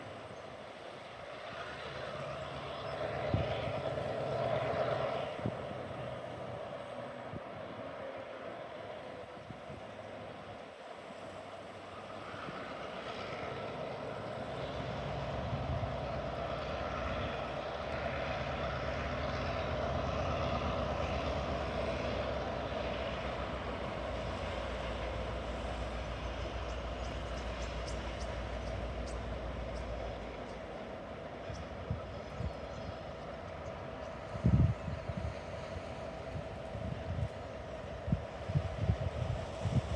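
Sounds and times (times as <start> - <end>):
diesel locomotive engine hum: 0.0 - 39.9.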